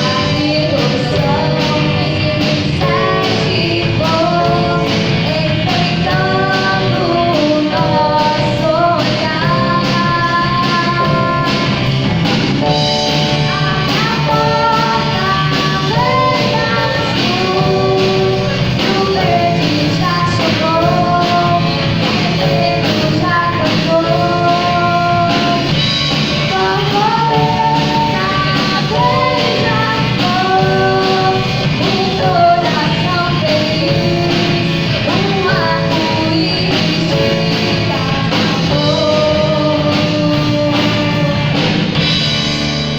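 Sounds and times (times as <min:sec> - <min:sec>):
person singing lead vocal: 0:00.0 - 0:12.0, 0:12.6 - 0:42.2
bass: 0:00.0 - 0:42.9
guitar: 0:00.0 - 0:42.9
steady drum beat: 0:00.0 - 0:42.9.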